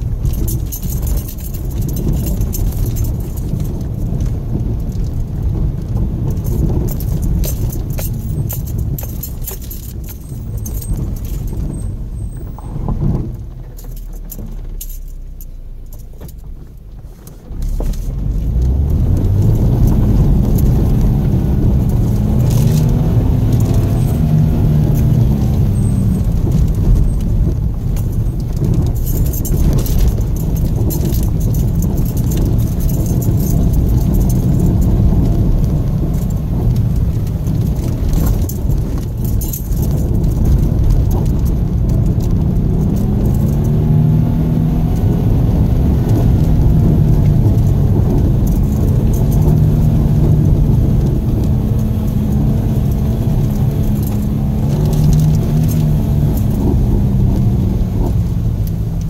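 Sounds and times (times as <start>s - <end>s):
light clicks and rattles: 0.0s - 44.0s, 44.8s - 59.0s
car engine and tyres on dirt: 0.0s - 59.0s.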